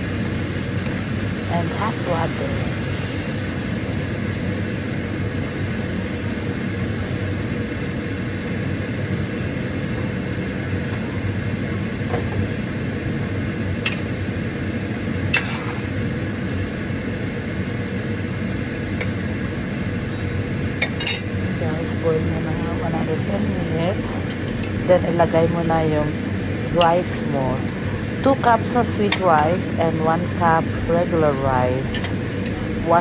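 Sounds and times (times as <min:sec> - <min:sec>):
mechanical hum and rush: 0:00.0 - 0:33.0.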